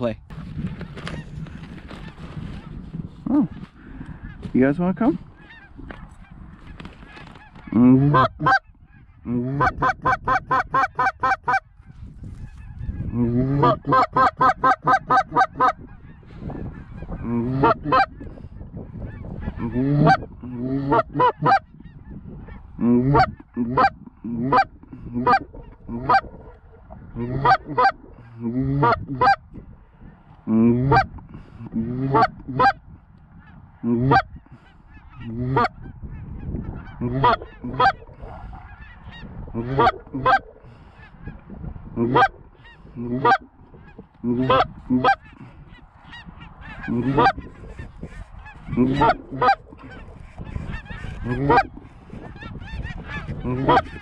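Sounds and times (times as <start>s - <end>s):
goose honking: 5.4s - 11.7s, 12.4s - 18.5s, 19.1s - 29.4s, 30.8s - 31.1s, 31.7s - 32.8s, 33.4s - 54.0s.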